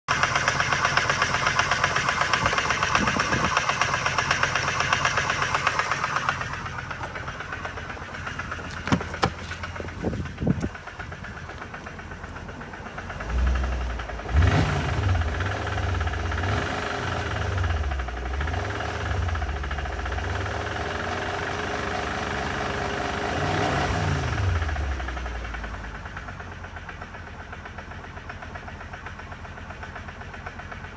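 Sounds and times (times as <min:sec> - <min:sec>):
deep low engine sound: 0:00.1 - 0:30.9
engine ticking knock: 0:00.1 - 0:30.9.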